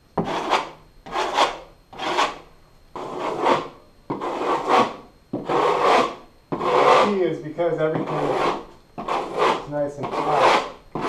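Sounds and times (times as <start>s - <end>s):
drywall knife scraping: 0.2s - 7.2s, 7.9s - 11.0s.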